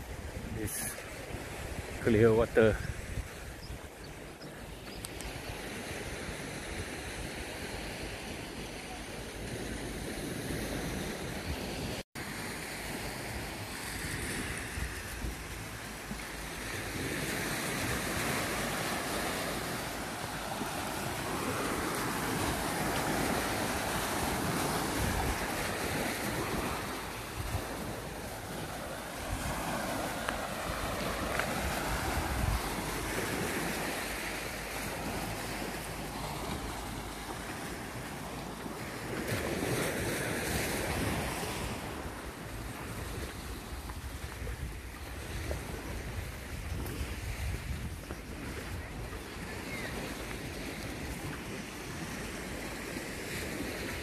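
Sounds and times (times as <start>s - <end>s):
wind buffeting microphone: 0.0s - 12.0s, 13.6s - 54.0s
small waves washing up shore: 0.0s - 54.0s.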